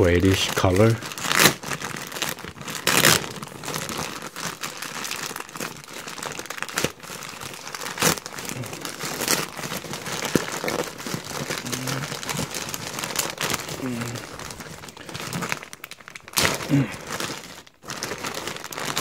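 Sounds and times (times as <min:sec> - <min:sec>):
plastic bag crinkling: 0:00.0 - 0:19.0
plastic ripping: 0:00.0 - 0:19.0.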